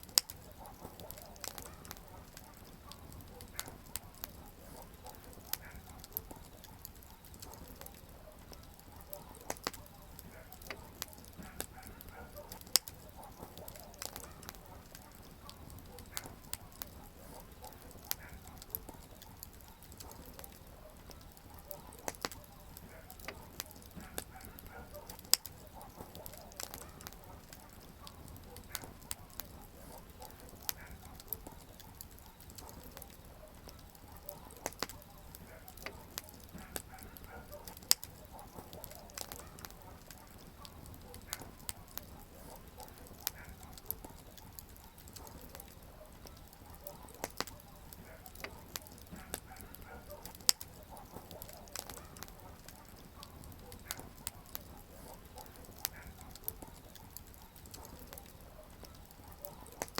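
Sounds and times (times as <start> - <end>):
campfire crackling: 0.0 - 59.9
faint steady hiss: 0.0 - 59.9.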